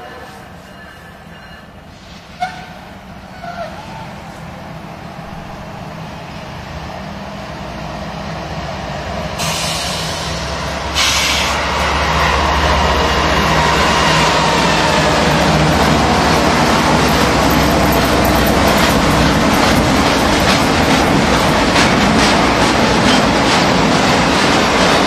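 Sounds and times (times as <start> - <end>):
train wheels on rails: 0.0 - 25.0
locomotive engine drone: 3.0 - 25.0.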